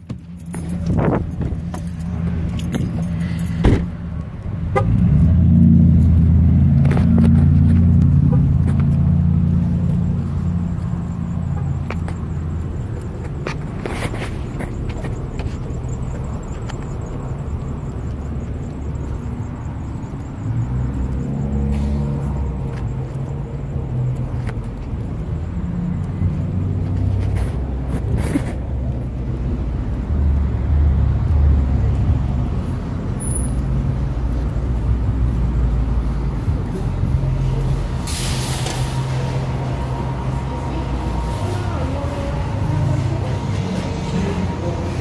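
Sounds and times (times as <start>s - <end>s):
low rumble of road traffic: 0.0s - 45.0s.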